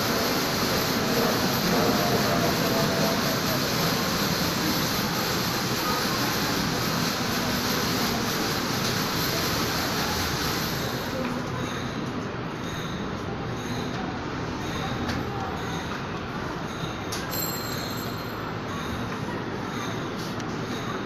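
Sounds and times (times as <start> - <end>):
ceiling fans and air conditioning: 0.0 - 21.0.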